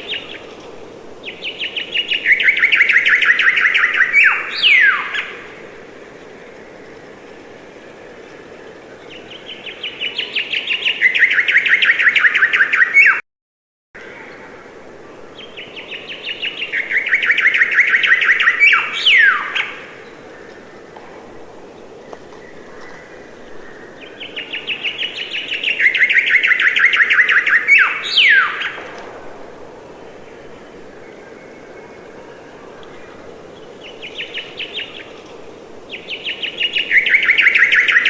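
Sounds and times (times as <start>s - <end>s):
songbird trilling song: 0.0s - 5.5s, 9.0s - 13.2s, 15.2s - 20.8s, 21.8s - 29.0s, 30.0s - 38.0s.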